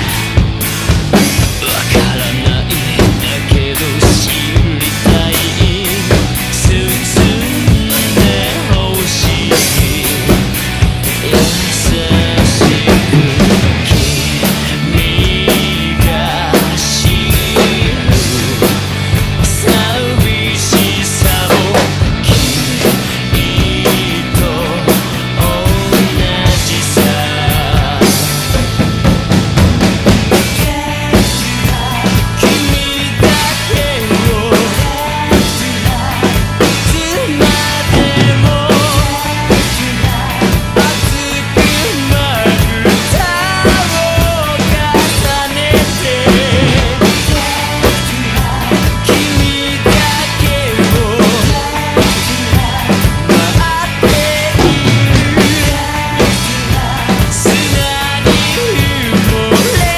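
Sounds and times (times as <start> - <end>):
recorded rock song: 0.0 - 59.9
rock drum kit playing: 0.0 - 59.9.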